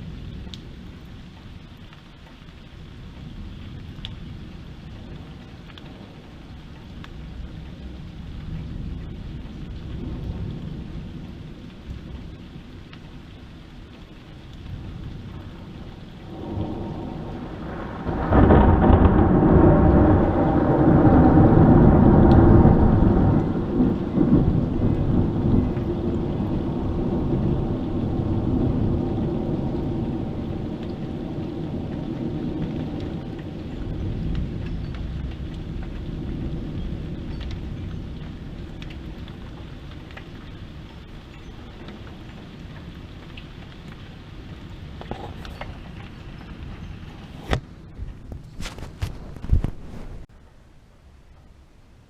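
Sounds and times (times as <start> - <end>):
thunder rumbling: 0.0 - 50.4
heavy rain: 0.0 - 52.0.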